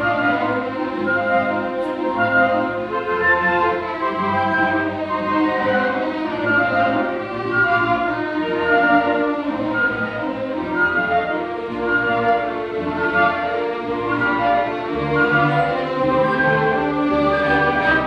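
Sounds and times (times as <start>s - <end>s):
orchestra playing a waltz: 0.0s - 18.0s.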